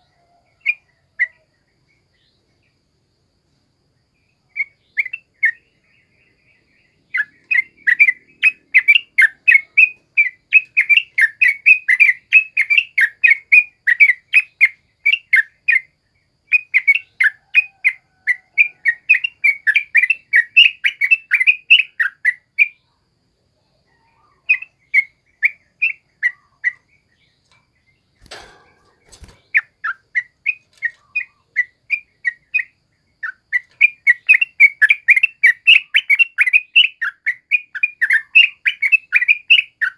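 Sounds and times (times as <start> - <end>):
bird chattering song: 4.3 - 23.0, 23.6 - 39.9.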